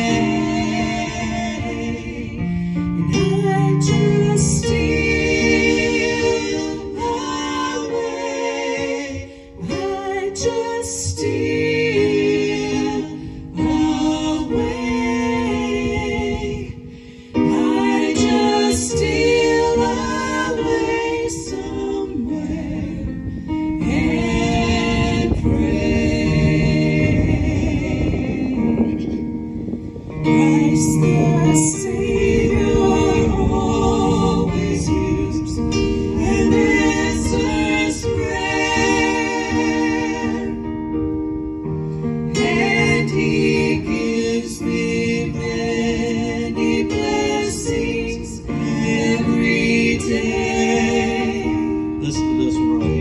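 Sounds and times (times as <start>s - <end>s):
group singing a gospel hymn: 0.0s - 53.0s.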